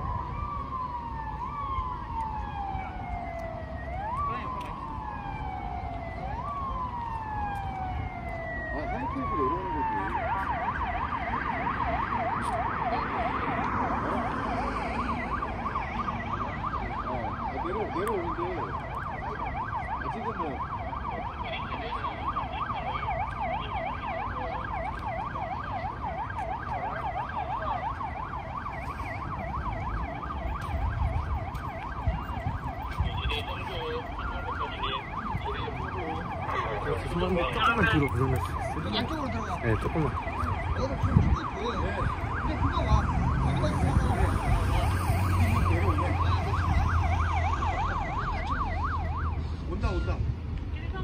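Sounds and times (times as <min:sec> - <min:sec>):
engine and traffic noise: 0:00.0 - 0:51.0
police sirens yelping: 0:00.0 - 0:51.0.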